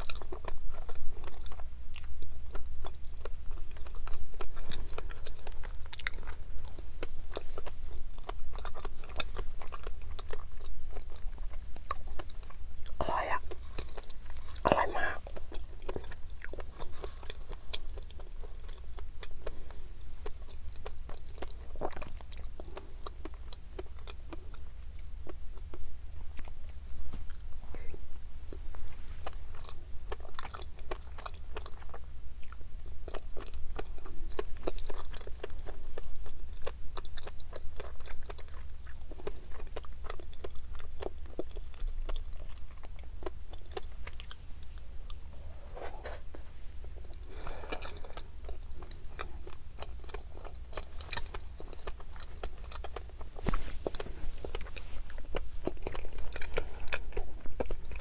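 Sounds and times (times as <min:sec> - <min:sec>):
close chewing with crackling pops: 0:00.0 - 0:58.0.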